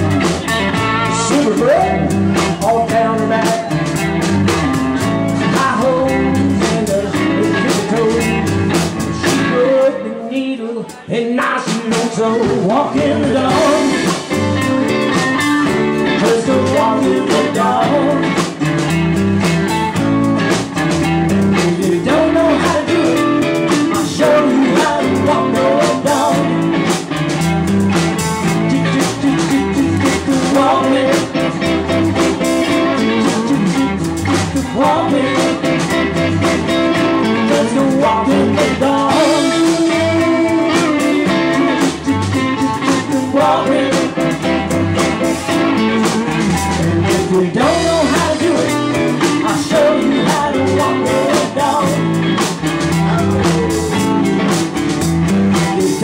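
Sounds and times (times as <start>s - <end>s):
drum kit: 0.0s - 10.1s, 10.9s - 56.0s
electric bass guitar: 0.0s - 56.0s
live band playing blues rock: 0.0s - 56.0s.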